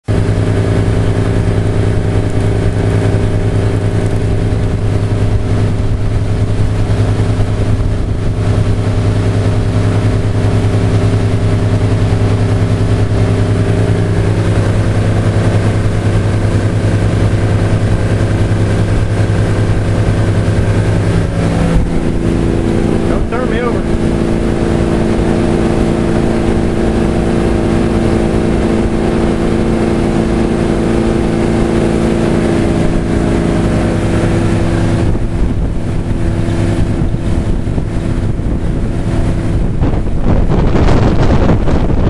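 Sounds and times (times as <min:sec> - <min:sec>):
motorboat engine humming: 0:00.0 - 0:42.0
rushing water: 0:00.0 - 0:42.0
wind: 0:00.0 - 0:42.0.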